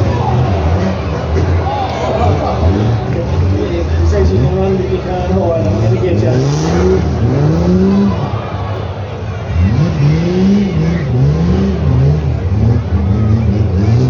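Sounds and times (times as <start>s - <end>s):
engines revving: 0.0s - 14.0s.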